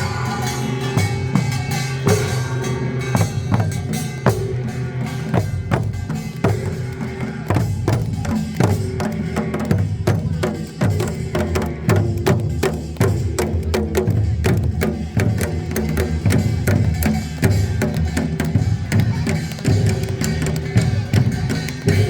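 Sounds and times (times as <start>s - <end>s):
drums and hand percussion: 0.0s - 22.0s.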